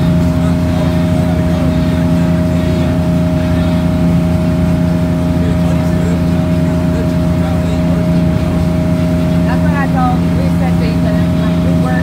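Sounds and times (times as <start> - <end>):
boat engine droning: 0.0 - 12.0
rushing water: 0.0 - 12.0.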